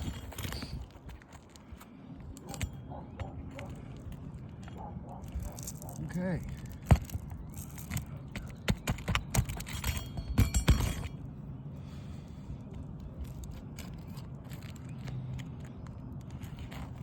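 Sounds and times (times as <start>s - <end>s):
steady low hum: 0.0s - 17.0s
tools clicking and scraping on shingles: 0.0s - 17.0s.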